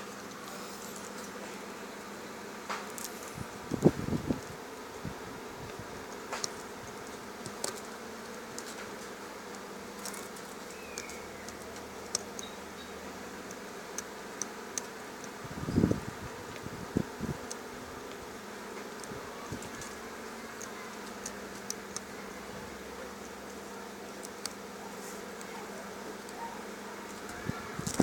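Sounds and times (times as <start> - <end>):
electrical buzzing hum: 0.0 - 28.0.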